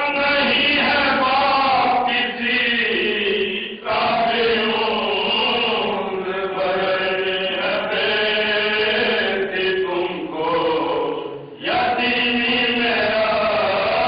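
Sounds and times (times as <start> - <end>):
men chanting unaccompanied: 0.0 - 14.0.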